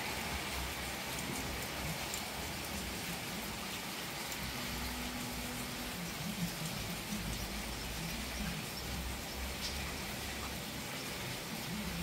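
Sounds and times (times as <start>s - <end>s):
steady rain hissing: 0.0s - 12.0s.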